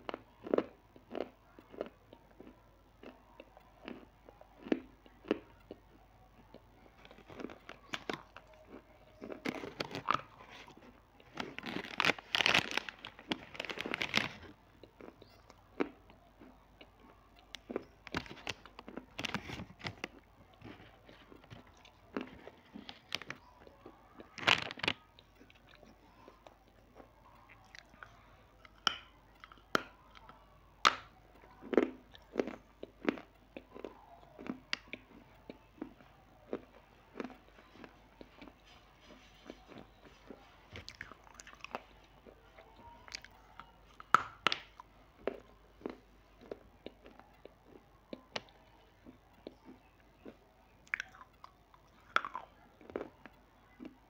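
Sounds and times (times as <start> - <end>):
crunchy snack chewing: 0.0 - 3.2, 3.8 - 5.9, 6.5 - 54.0.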